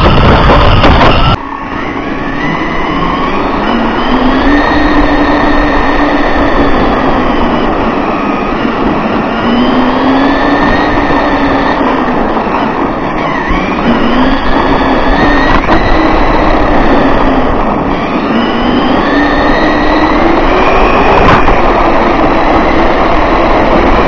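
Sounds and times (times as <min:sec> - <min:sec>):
rc car motor hum: 0:00.0 - 0:24.0
road and wind noise: 0:00.0 - 0:24.0.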